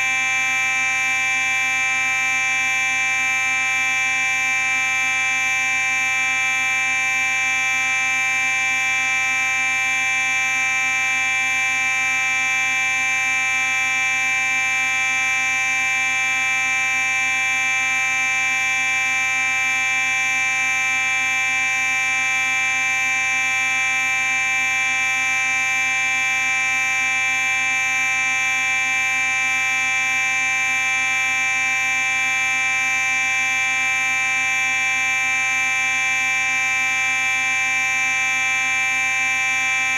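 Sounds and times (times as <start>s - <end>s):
fire alarm steady tone: 0.0s - 39.9s.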